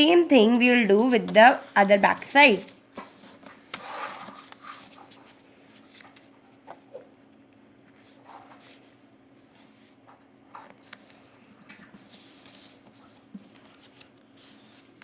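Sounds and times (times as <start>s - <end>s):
paper rustling and creasing: 1.6s - 10.0s, 10.6s - 15.0s.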